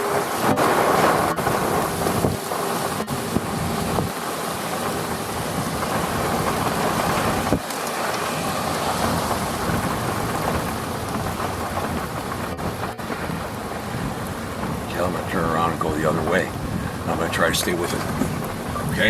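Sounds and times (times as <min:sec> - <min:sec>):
heavy rain on a car: 0:00.0 - 0:19.0
low rumbling: 0:00.0 - 0:19.0.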